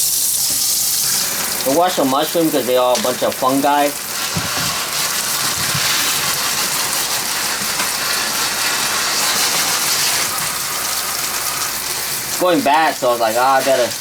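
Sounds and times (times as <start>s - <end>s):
tap running: 0.4s - 14.0s.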